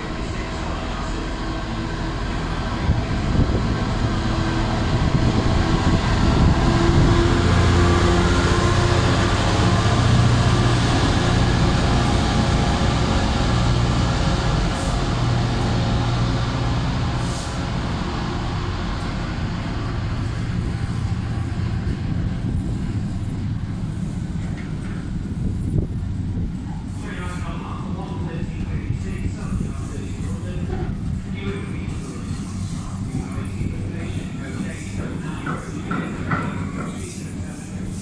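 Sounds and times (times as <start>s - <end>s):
diesel locomotive engine passing: 0.0s - 38.0s
train wheels rumbling on rails: 0.0s - 38.0s.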